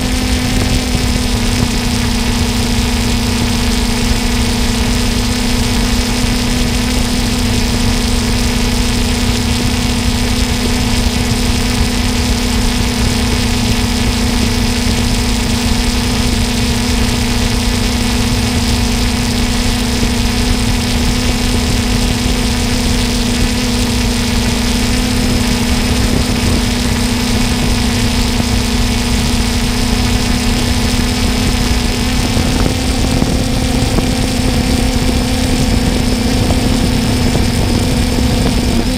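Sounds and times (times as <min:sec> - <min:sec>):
drone propellers humming: 0:00.0 - 0:38.9
wind noise rumble: 0:00.0 - 0:38.9.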